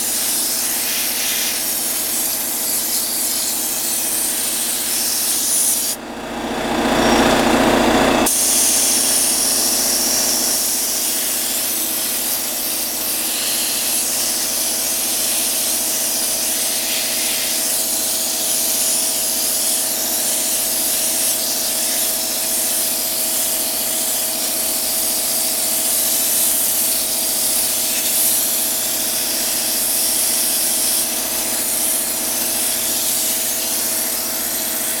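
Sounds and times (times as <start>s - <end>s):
sprayer hissing water: 0.0s - 6.0s, 8.2s - 35.0s
pump motor hum: 0.0s - 35.0s.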